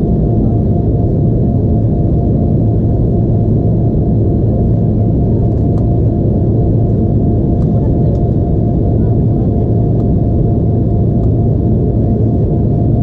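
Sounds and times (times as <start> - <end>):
airliner cabin engine drone: 0.0 - 13.0
low steady hum: 0.0 - 13.0.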